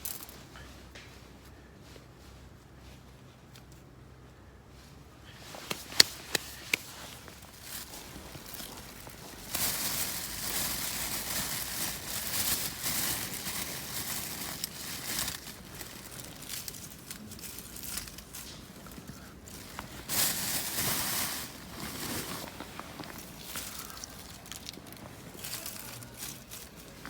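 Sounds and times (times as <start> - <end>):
rustling and crinkling: 0.0 - 27.0.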